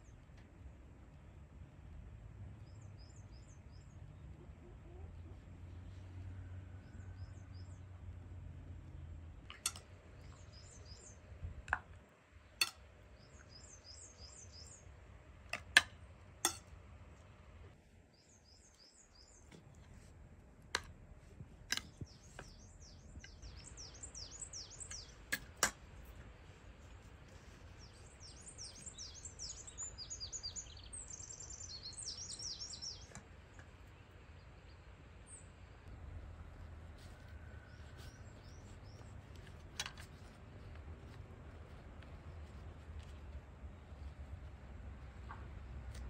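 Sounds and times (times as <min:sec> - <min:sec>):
small birds chirping: 0:02.6 - 0:15.8, 0:16.4 - 0:46.0.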